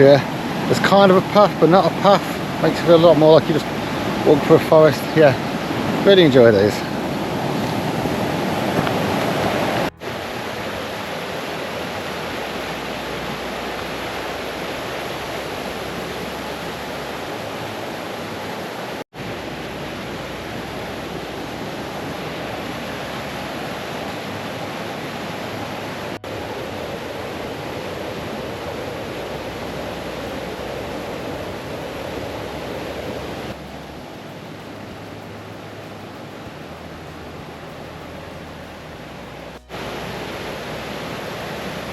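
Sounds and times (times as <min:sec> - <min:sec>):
stream running over small falls: 0:00.0 - 0:41.9.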